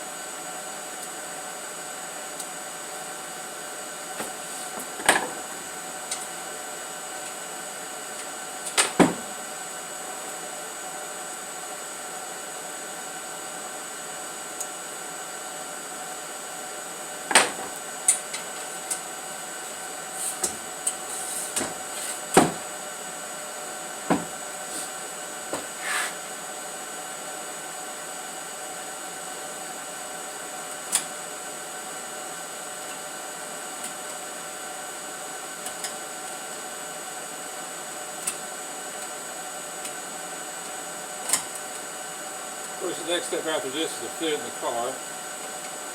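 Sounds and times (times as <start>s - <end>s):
workshop hum: 0.0s - 45.9s.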